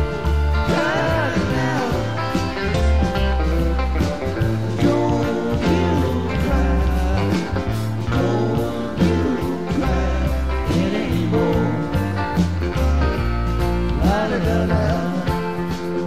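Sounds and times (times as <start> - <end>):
bass: 0.0 - 16.0
drums: 0.0 - 16.0
electric guitar lines: 0.0 - 16.0.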